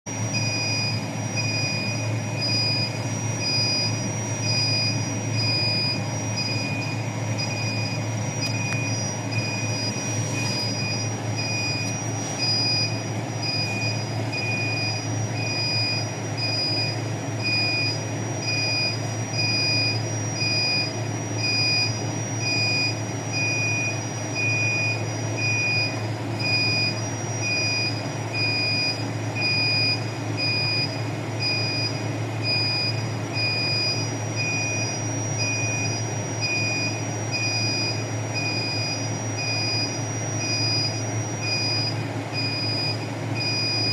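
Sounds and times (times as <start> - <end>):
air handling unit humming: 0.1 - 43.9
electronic alarm beeping: 0.1 - 43.9.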